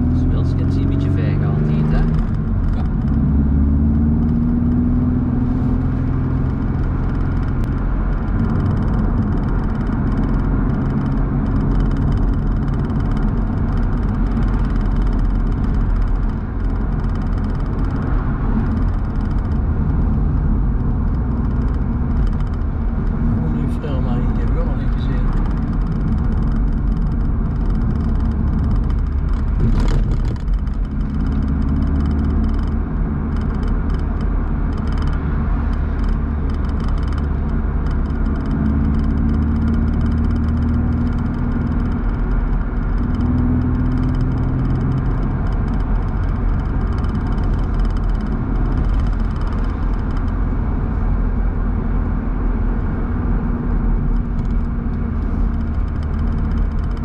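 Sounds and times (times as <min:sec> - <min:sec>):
car engine droning: 0:00.0 - 0:57.0
wind noise: 0:00.0 - 0:57.0.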